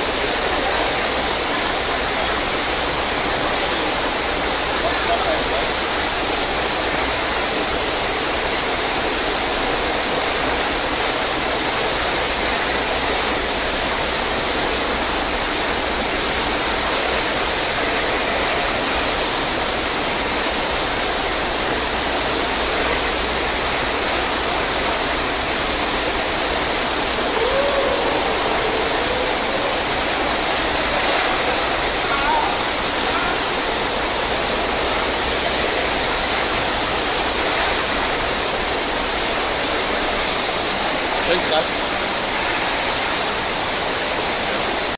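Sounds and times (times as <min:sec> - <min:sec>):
rush of pumped water: 0:00.0 - 0:44.9.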